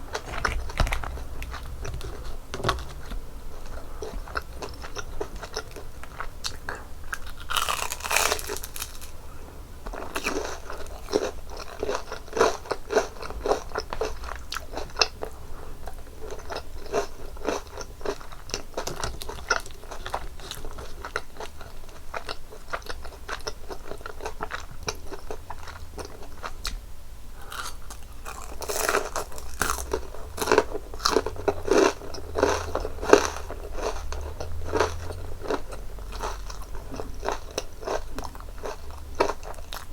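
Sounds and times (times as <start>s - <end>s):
crunching and chewing fried food: 0.0s - 39.9s.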